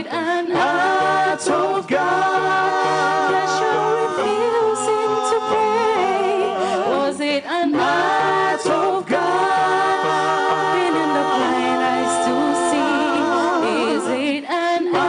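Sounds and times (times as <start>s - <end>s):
a cappella gospel choir singing: 0.0s - 15.0s.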